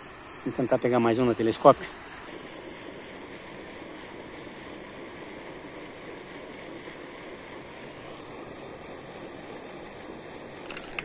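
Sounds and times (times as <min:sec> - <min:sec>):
rushing water hiss: 0:00.0 - 0:11.0.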